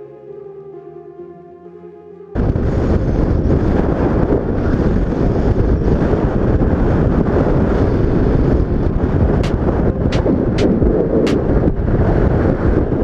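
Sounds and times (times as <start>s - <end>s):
wind buffeting microphone: 2.4s - 13.0s.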